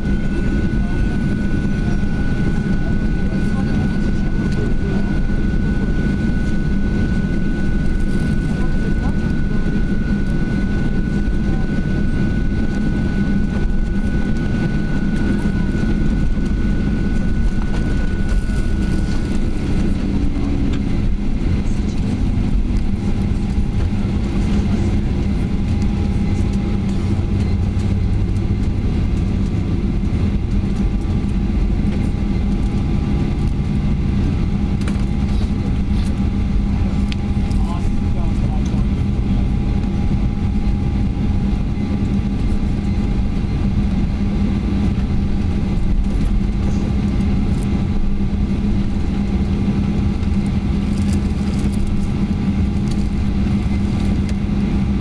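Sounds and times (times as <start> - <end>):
airplane cabin engine rumble: 0.0 - 55.0
high engine whine: 0.0 - 55.0.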